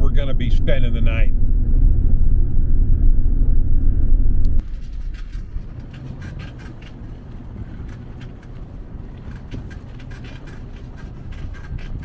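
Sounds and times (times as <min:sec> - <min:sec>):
quiet low rumble: 0:00.0 - 0:12.0
truck rumbling from inside cab: 0:00.0 - 0:12.0.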